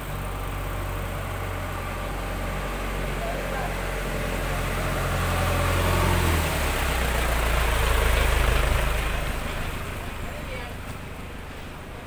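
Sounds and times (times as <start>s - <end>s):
truck engine rumbling past: 0.0s - 12.0s.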